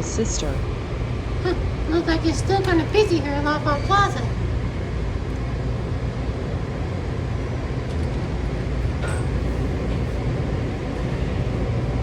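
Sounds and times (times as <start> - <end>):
train rumbling at platform: 0.0 - 12.0.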